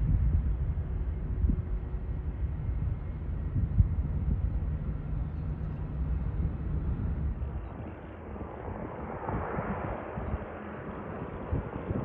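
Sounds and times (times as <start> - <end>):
distant jet airliner rumble: 0.0 - 12.0.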